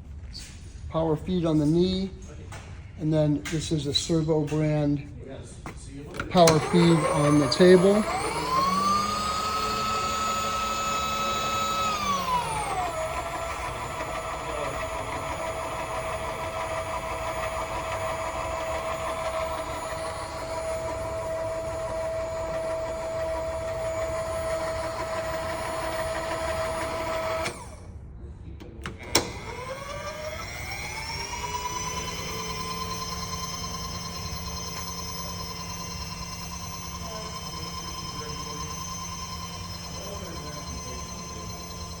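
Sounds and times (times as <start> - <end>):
electric feed motor whining: 6.2 - 27.9, 28.6 - 42.0.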